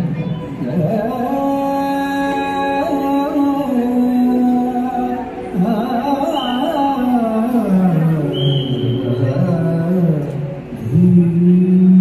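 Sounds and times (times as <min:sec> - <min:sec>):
person singing long notes: 0:00.0 - 0:12.0.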